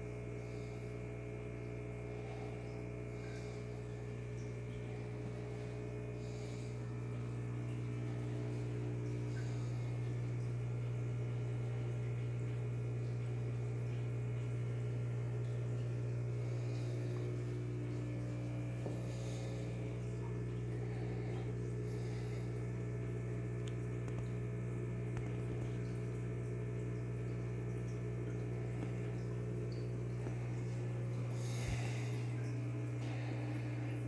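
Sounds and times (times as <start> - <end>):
aquarium equipment humming: 0.0 - 34.0.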